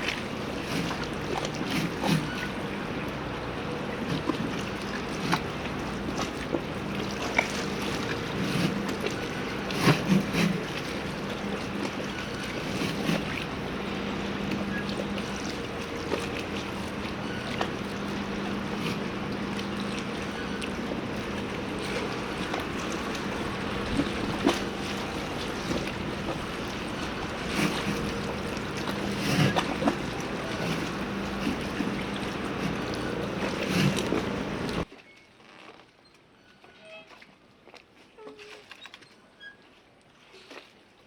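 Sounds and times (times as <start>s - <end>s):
water wash: 0.0s - 34.9s
low boat engine hum: 0.0s - 40.8s.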